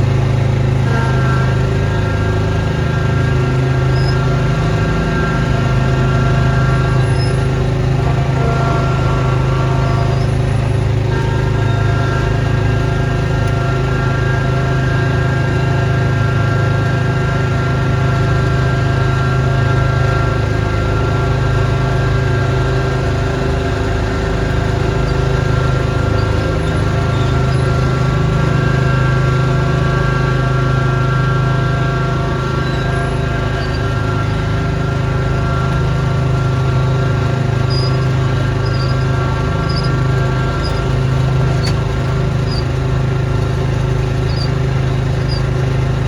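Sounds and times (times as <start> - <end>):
snowblower engine running: 0.0 - 46.0.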